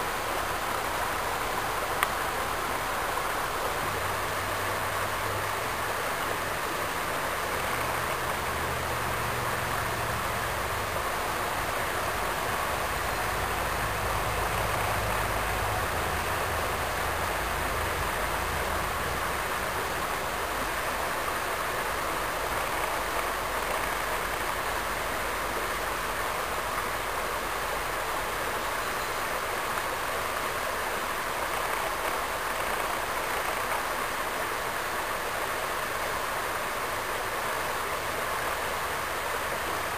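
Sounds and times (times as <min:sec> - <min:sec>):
water flowing in a creek: 0:00.0 - 0:39.9.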